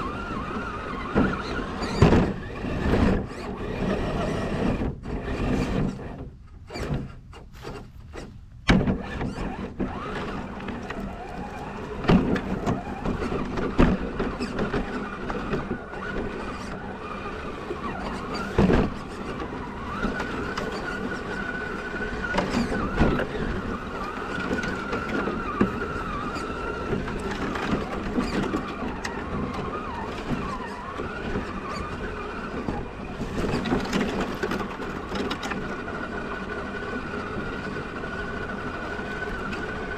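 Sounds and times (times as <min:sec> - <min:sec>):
electric motor whining: 0:00.0 - 0:39.9.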